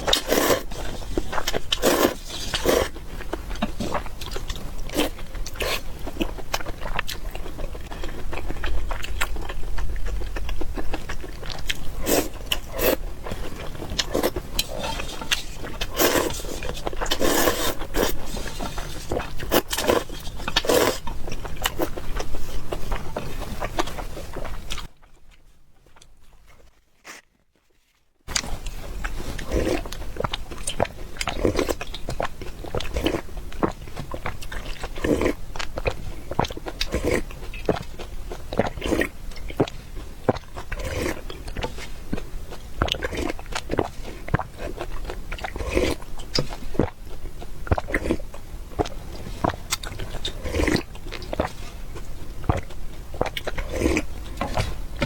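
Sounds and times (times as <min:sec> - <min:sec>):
chewing and biting: 0:00.0 - 0:27.3, 0:28.3 - 0:55.0.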